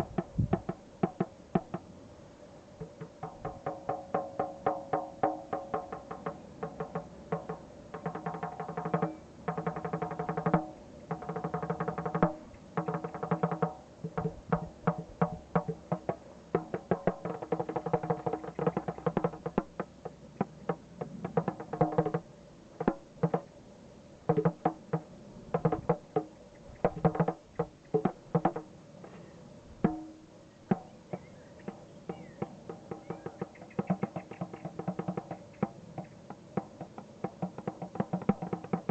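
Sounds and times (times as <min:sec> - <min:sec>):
hand drumming on pitched percussion: 0:02.8 - 0:22.2, 0:22.8 - 0:23.5, 0:24.3 - 0:28.7, 0:29.8 - 0:31.3, 0:32.1 - 0:38.9.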